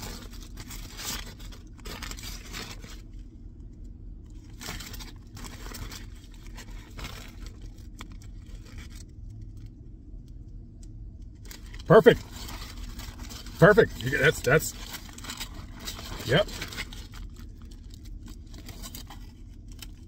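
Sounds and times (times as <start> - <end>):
sandwich wrapper crinkling and tearing: 0.0 - 20.0.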